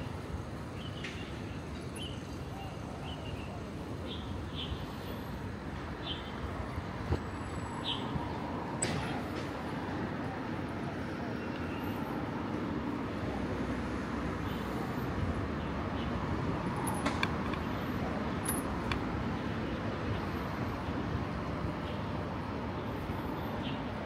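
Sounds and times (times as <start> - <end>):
passing vehicles hum: 0.0 - 24.0.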